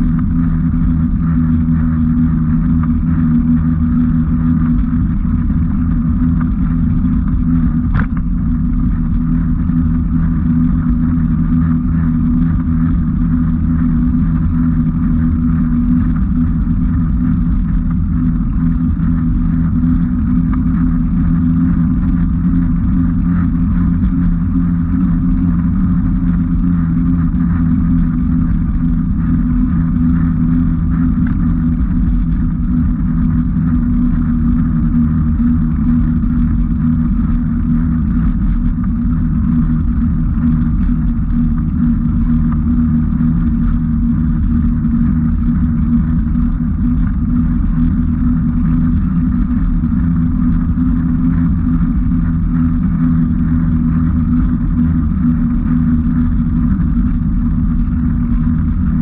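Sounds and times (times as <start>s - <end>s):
vehicle rumbling on gravel: 0.0s - 59.0s.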